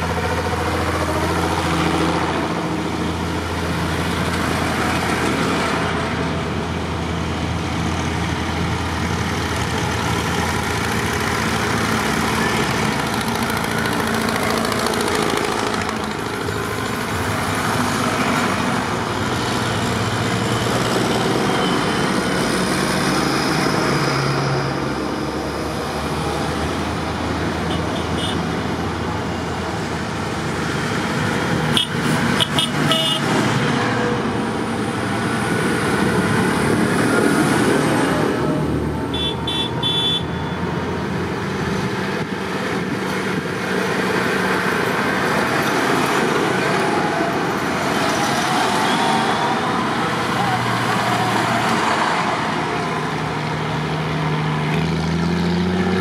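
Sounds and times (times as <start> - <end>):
tractor engines passing: 0.0 - 56.0.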